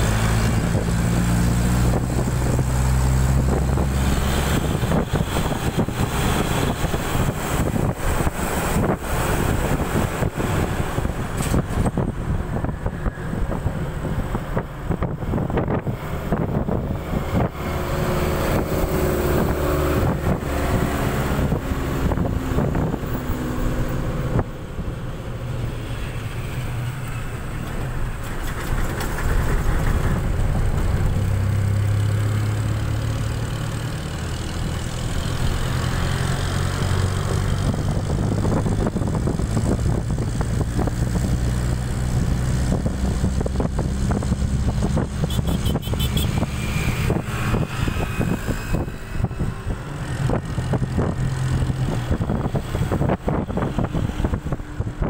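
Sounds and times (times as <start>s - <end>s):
bus engine: 0.0s - 55.0s
road noise: 0.0s - 55.0s.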